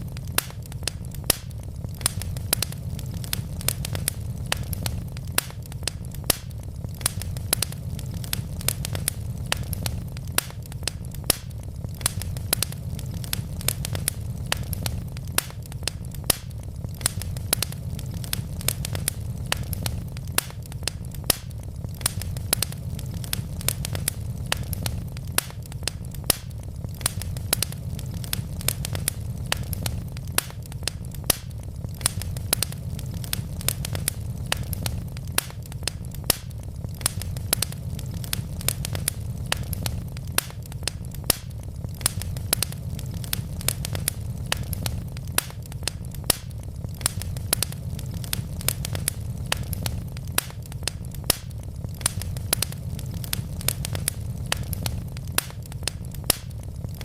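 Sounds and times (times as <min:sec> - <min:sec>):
burning logs popping: 0:00.0 - 0:57.0
wood fire crackling: 0:00.0 - 0:57.0.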